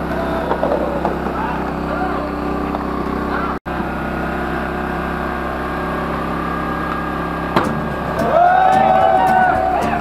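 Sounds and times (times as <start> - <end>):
small engine droning: 0.0 - 10.0.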